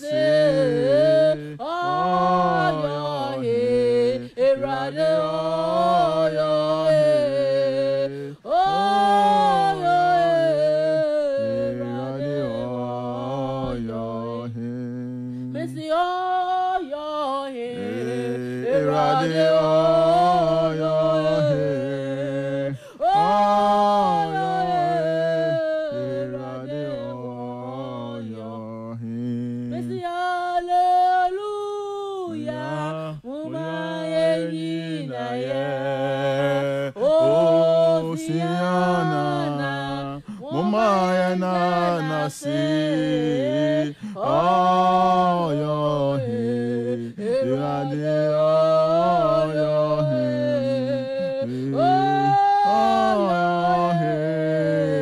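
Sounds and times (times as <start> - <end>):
woman singing gospel song: 0.0 - 14.3, 15.4 - 28.6, 29.7 - 55.0.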